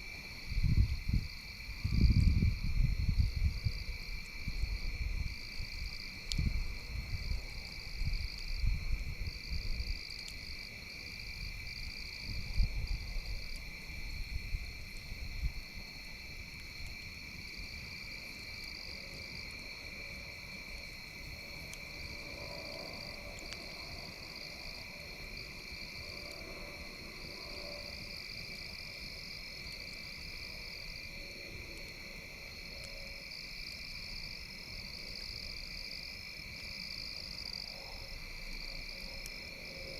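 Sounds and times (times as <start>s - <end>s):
night insects chirping: 0.0s - 39.9s.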